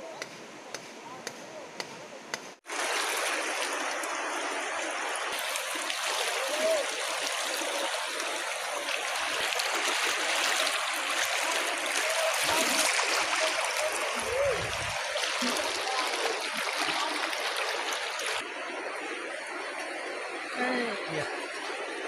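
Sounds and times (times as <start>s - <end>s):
river water rushing: 2.7s - 22.0s.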